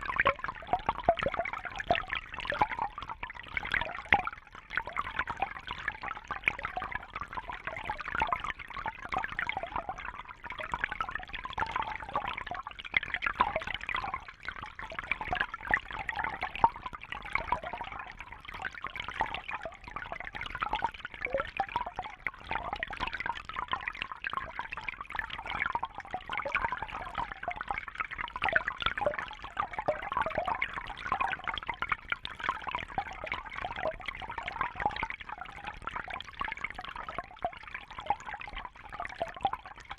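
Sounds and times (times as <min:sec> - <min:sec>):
water trickling and bubbling: 0:00.0 - 0:39.9.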